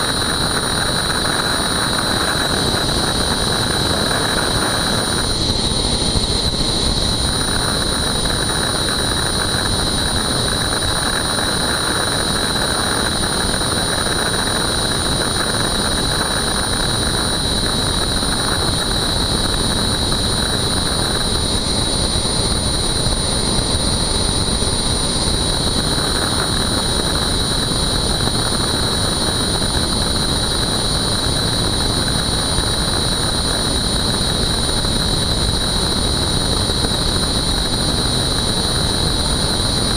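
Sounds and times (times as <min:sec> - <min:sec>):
helicopter rotor rushing noise: 0:00.0 - 0:39.9
helicopter turbine whine: 0:00.0 - 0:39.9.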